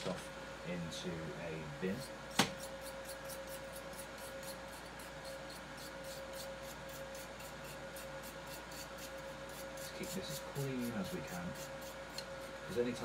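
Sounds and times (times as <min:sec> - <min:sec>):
faint steady hum: 0:00.0 - 0:13.0
toothbrush bristles scratching: 0:02.0 - 0:13.0.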